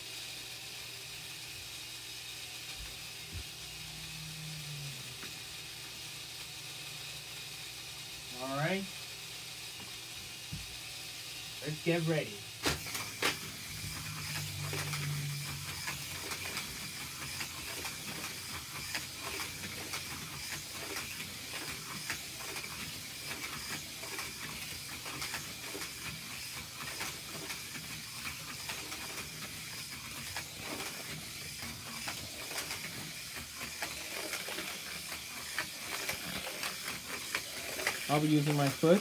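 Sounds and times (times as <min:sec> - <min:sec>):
toy car motor whirring: 0:00.0 - 0:39.0.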